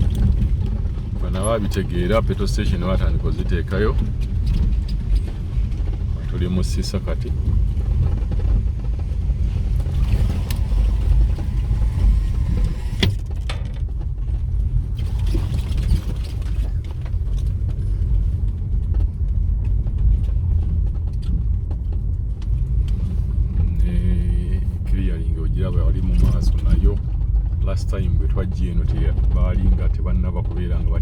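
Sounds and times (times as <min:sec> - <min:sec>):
vehicle rumble from on board: 0:00.0 - 0:31.0.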